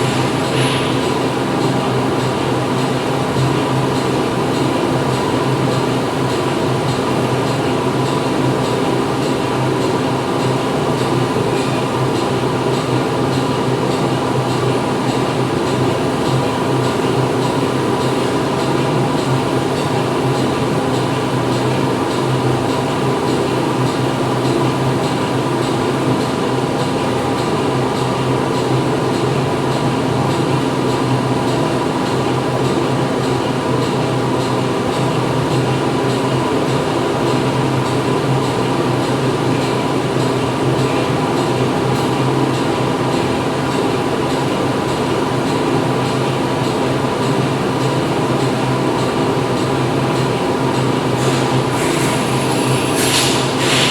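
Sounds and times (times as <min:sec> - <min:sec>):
factory machinery drone: 0:00.0 - 0:53.9.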